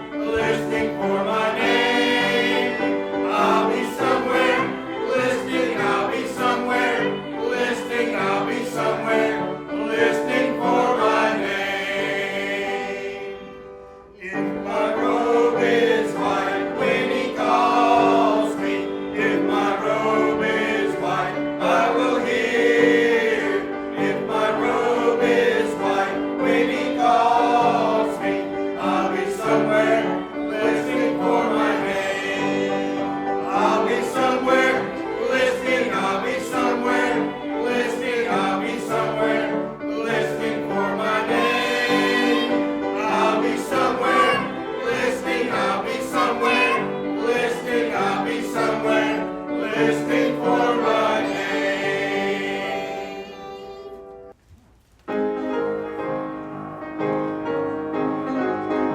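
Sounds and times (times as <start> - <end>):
congregation singing a hymn: 0.0 - 54.4.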